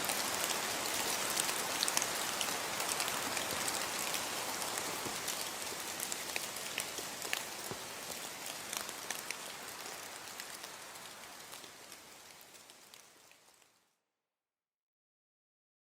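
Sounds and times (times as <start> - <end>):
rain drops ticking on surface: 0.0 - 13.9.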